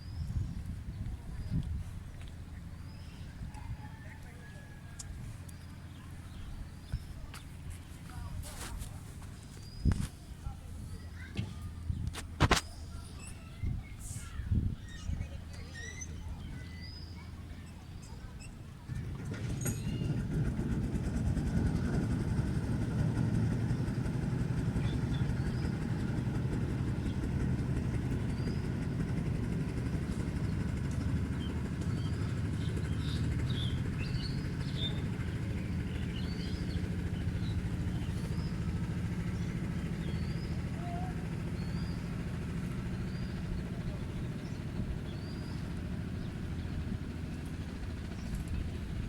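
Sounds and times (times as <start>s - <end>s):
birds chirping: 0.0s - 19.0s, 23.0s - 49.0s
engine running steadily: 0.0s - 49.0s.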